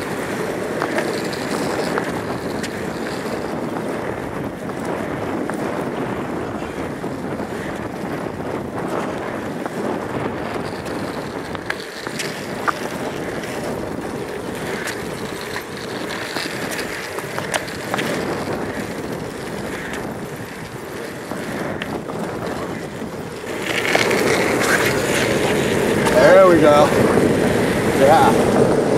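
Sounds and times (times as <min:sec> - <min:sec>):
skateboard wheels rolling on asphalt: 0:00.0 - 0:28.9
wind noise on microphone: 0:00.0 - 0:28.9.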